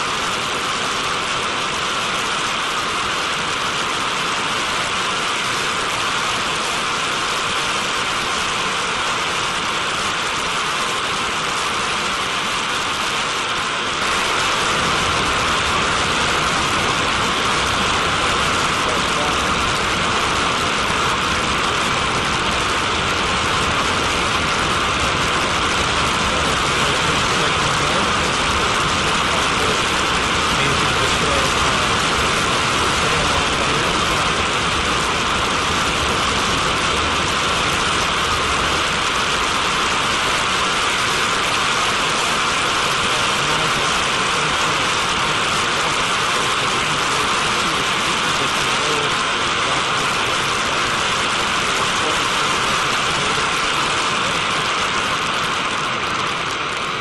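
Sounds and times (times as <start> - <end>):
jet engine rushing hiss: 0.0 - 57.0.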